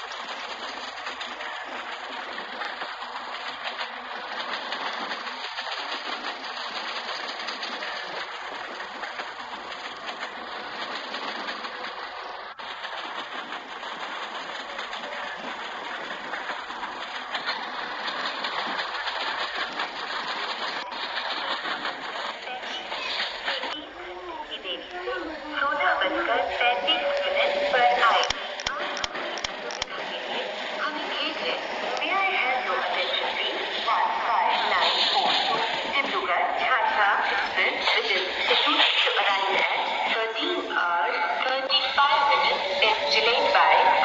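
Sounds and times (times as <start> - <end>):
train rattling on track: 0.0 - 44.0.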